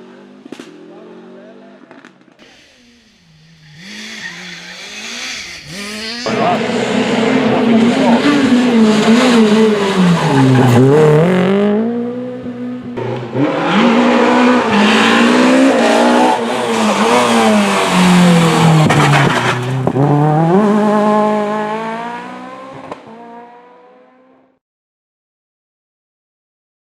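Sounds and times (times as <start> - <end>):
rally car engine revving: 0.0 - 24.6.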